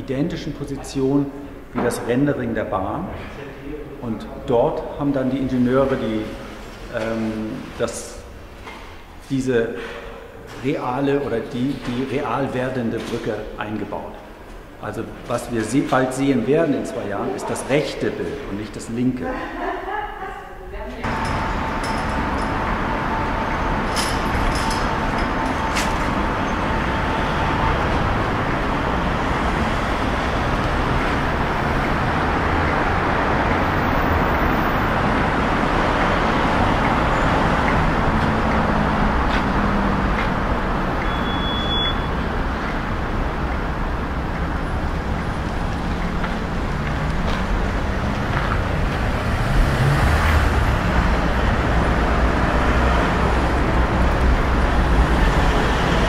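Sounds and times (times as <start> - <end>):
cars passing: 0.0 - 56.0
road traffic noise: 0.0 - 56.0.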